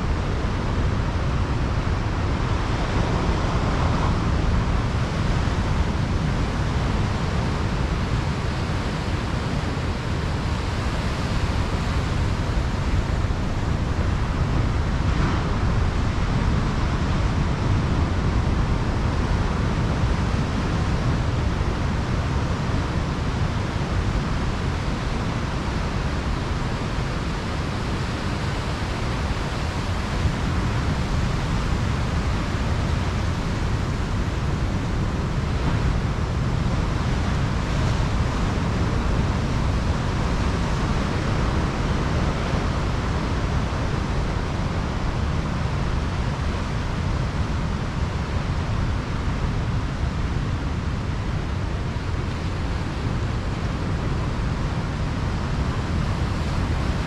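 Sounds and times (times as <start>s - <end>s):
ocean waves crashing on beach: 0.0s - 57.0s.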